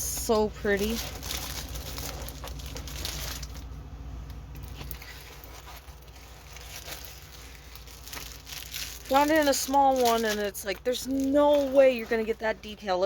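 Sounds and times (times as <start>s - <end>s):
plastic packaging crinkling: 0.0s - 13.0s
steady low hum: 0.0s - 13.0s.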